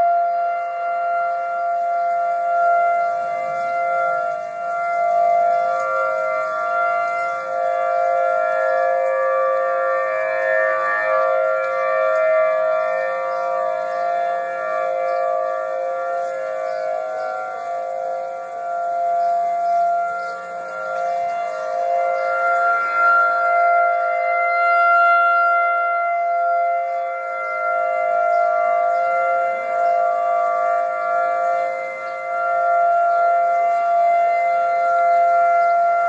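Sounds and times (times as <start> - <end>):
tornado siren steady note: 0.0 - 36.0.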